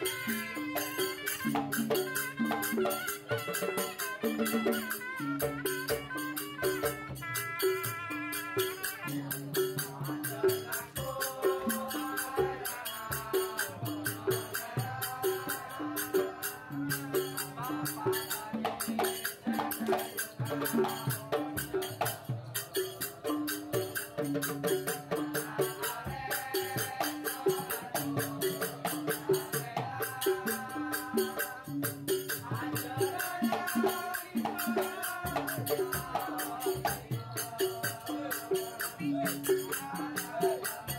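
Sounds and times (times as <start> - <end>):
shaken percussion: 0.0 - 40.9.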